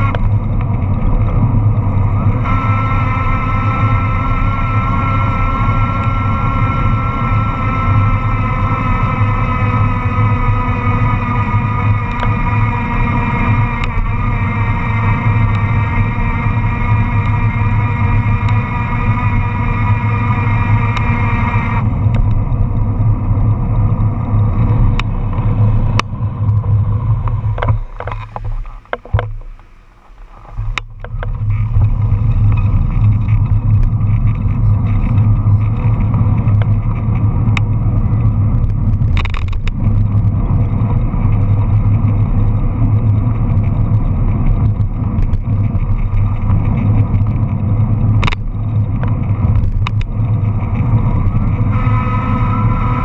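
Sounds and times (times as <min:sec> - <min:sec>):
road noise: 0:00.0 - 0:53.0
traffic: 0:00.0 - 0:53.0
wind rushing on microphone: 0:00.0 - 0:53.0.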